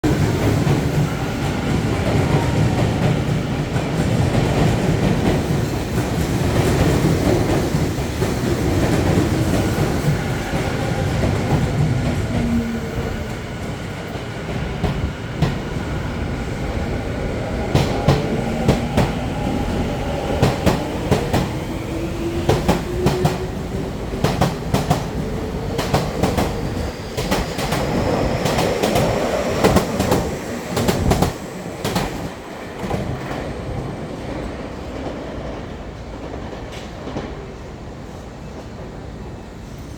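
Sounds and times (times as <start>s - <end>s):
train running rumble: 0.1s - 33.8s.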